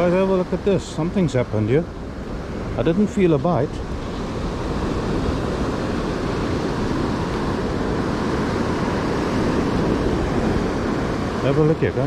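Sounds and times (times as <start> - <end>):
sea surf: 0.0 - 12.0
wind rumbling on microphone: 0.0 - 12.0.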